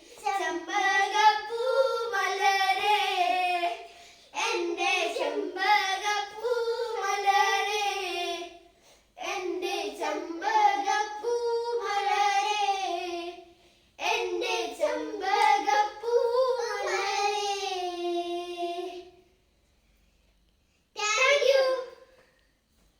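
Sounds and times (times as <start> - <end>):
child singing unaccompanied: 0.0 - 8.6, 9.2 - 19.2, 21.0 - 22.0.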